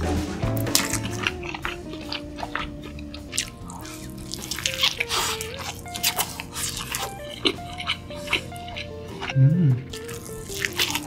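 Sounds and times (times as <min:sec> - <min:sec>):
background music: 0:00.0 - 0:11.0
mouth clicks and smacks: 0:00.6 - 0:11.0
wet chewing and mouth sounds: 0:00.6 - 0:11.0.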